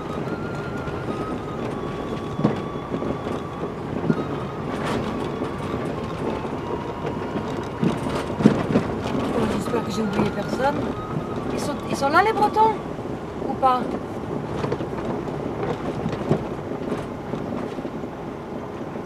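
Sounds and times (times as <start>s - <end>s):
engine and road noise: 0.0s - 19.0s
vehicle body rattling over bumps: 0.0s - 19.0s.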